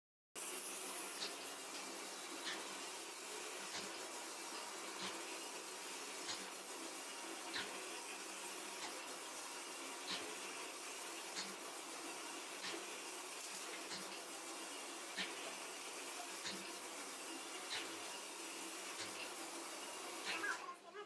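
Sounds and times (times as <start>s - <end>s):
rolling machine hissing: 0.4s - 20.9s.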